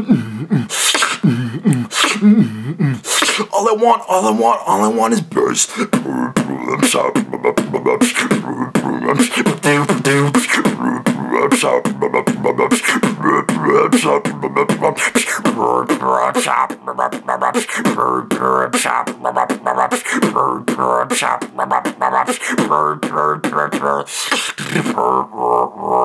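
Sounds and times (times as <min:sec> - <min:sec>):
beatboxing: 0:00.0 - 0:26.0.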